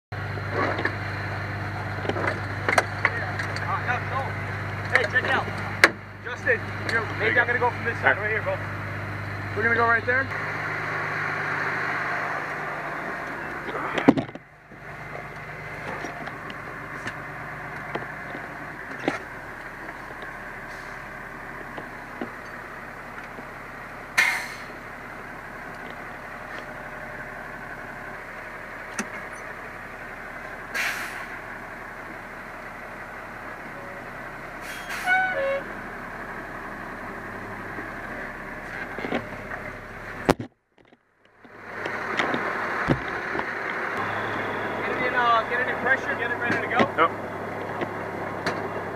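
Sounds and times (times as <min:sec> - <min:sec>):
truck engine idling: 0:00.1 - 0:48.9.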